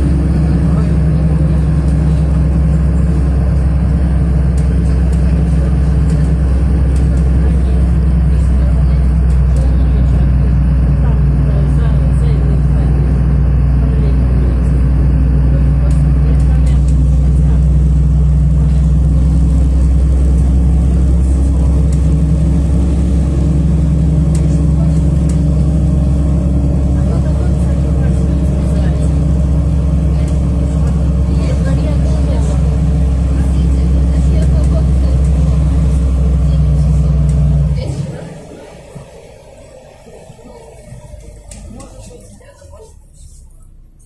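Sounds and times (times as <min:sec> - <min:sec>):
bus engine drone: 0:00.0 - 0:44.0
road noise: 0:00.0 - 0:44.0.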